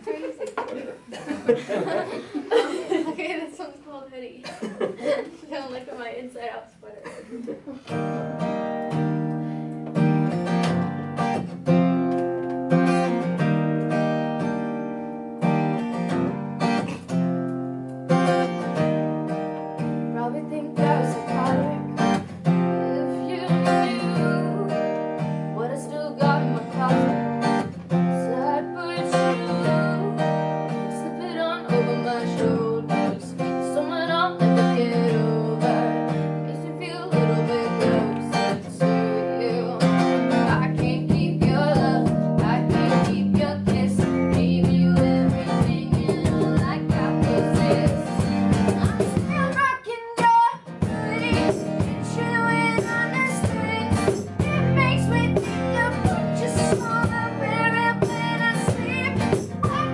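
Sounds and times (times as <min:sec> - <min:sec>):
acoustic guitar strumming: 0:07.8 - 0:59.9.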